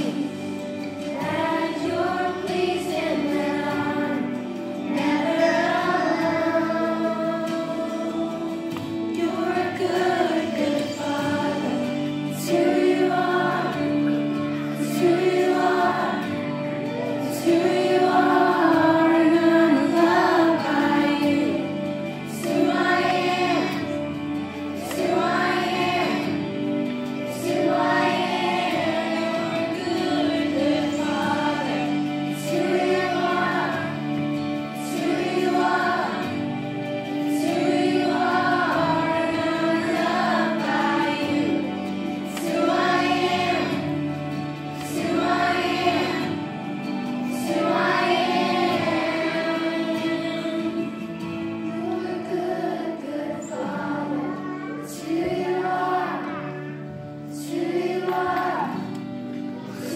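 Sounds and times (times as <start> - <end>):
children's choir singing: 0.0 - 59.9
instrumental accompaniment: 0.0 - 59.9.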